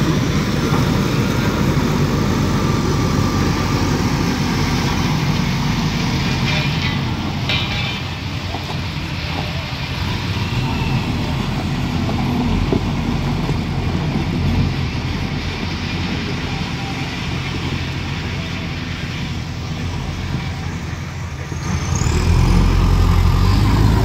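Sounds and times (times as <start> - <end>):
diesel engine running and revving: 0.0 - 24.0.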